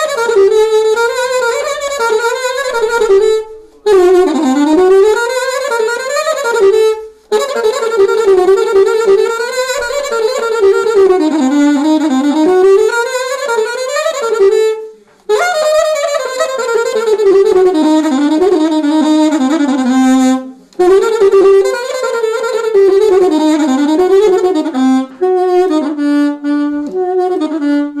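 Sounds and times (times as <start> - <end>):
solo saxophone melody: 0.0 - 28.0.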